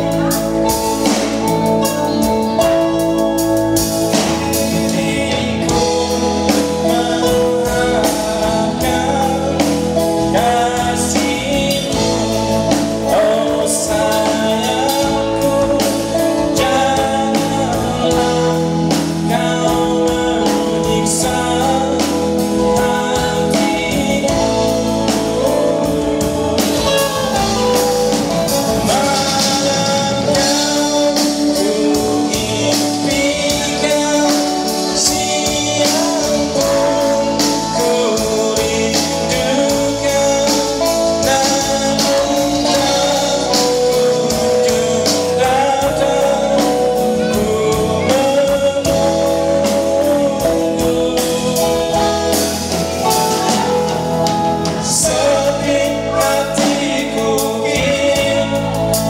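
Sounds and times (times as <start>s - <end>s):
band playing a song: 0.0s - 59.0s
lead singer singing: 0.0s - 59.0s.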